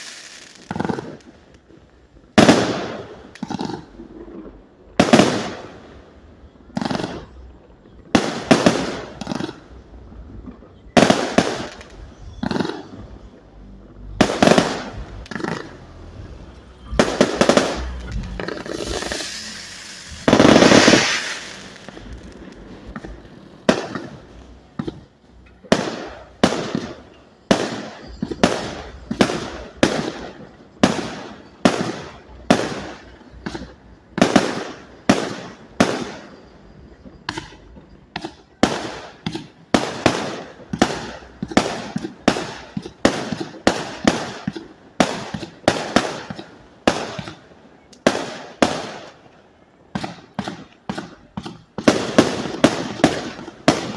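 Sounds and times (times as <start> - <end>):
fireworks firing: 0.0 - 53.9.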